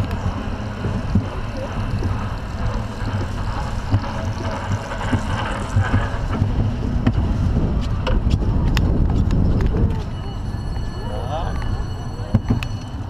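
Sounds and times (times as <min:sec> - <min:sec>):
roller coaster lift rumble: 0:00.0 - 0:13.0
wind on microphone: 0:00.0 - 0:13.0.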